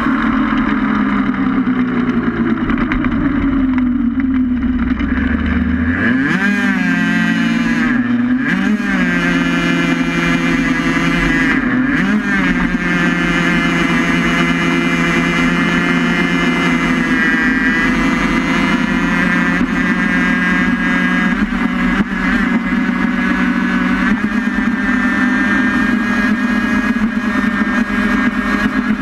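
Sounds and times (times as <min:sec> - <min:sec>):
racing vehicle engine running: 0:00.0 - 0:29.0.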